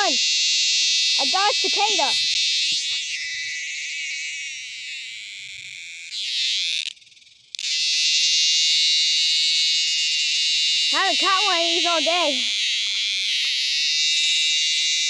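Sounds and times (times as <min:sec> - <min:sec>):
cicada buzzing loudly: 0:00.0 - 0:15.0.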